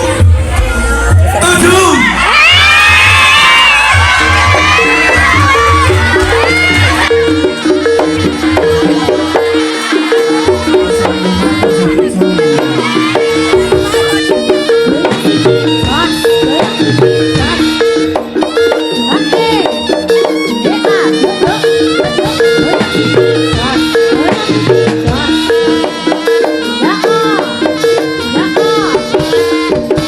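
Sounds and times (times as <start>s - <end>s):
loud repeating music: 0.0s - 30.0s.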